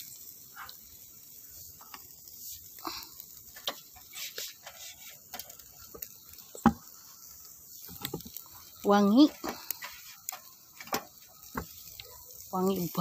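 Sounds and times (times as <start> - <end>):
faint crackles and clicks: 0.0 - 13.0
meat grilling over embers: 0.0 - 13.0.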